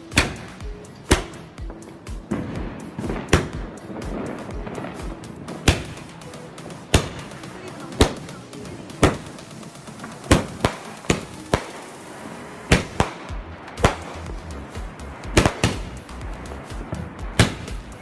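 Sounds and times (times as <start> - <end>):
background music with bass: 0.0 - 18.0
firecracker bangs: 0.0 - 18.0.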